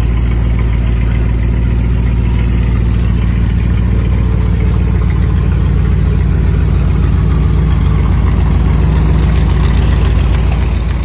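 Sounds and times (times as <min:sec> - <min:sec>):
trike engine idling: 0:00.0 - 0:11.0.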